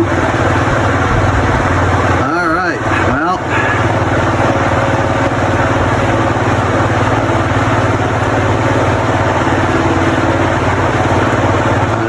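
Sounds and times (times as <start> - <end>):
electric fan running: 0.0 - 12.0.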